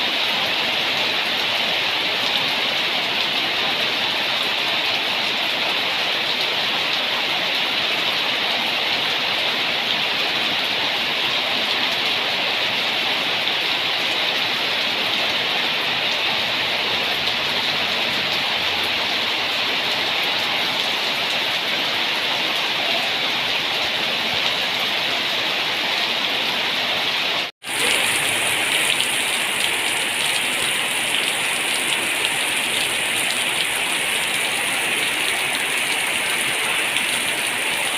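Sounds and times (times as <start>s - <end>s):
heavy rain: 0.0s - 37.9s.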